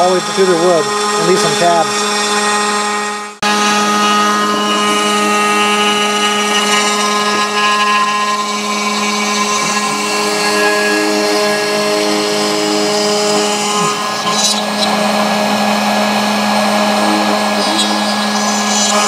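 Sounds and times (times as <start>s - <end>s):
lower machine tone: 0.0s - 19.0s
router spindle whining hum: 0.0s - 19.0s.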